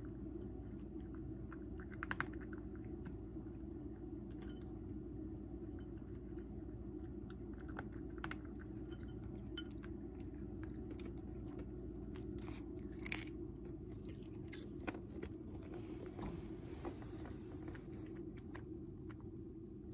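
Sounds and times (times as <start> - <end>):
cat crunching dry kibble: 0.0 - 4.8, 5.6 - 15.7, 17.4 - 19.4
low background hum: 0.0 - 19.9.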